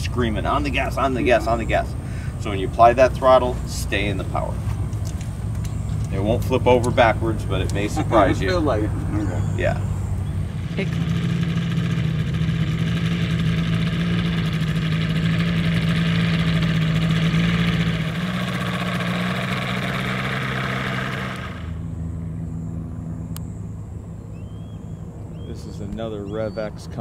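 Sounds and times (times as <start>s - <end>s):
propeller engine running: 0.0s - 26.9s
low engine hum: 0.0s - 27.0s.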